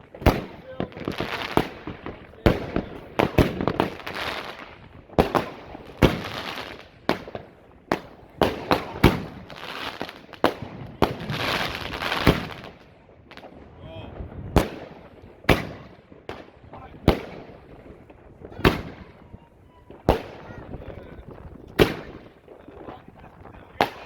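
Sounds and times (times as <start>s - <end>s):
firework bangs: 0.0s - 24.0s.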